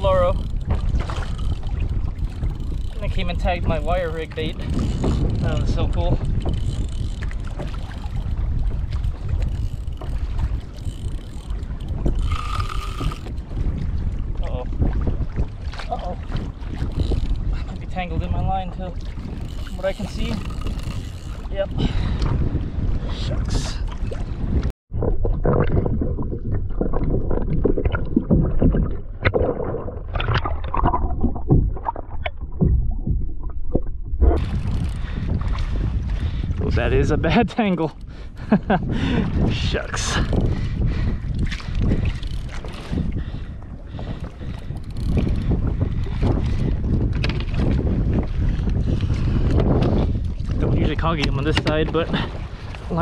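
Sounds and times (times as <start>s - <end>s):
water around a kayak: 0.0s - 53.0s
wind buffeting microphone: 0.0s - 53.0s.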